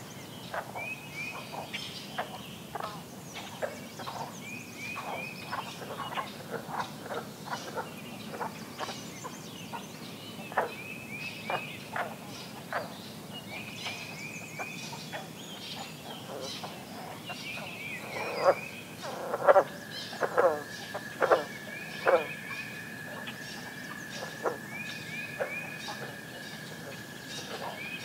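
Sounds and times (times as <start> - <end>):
frogs giving twangy calls: 0.0 - 28.0
songbirds singing: 0.0 - 28.0.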